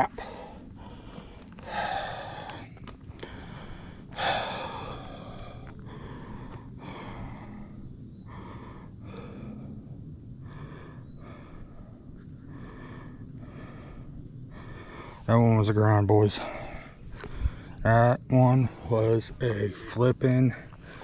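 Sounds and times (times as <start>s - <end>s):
man breathing hard: 0.0s - 15.3s, 16.3s - 17.9s, 20.6s - 21.0s.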